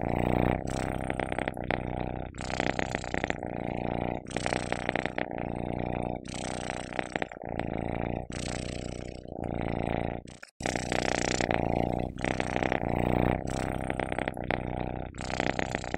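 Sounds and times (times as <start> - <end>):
cat purring: 0.0 - 15.9.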